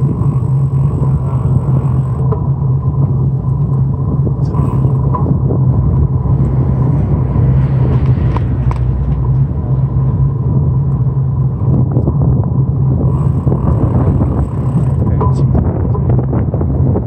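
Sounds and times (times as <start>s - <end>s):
vehicle rumbling along street: 0.0s - 17.0s.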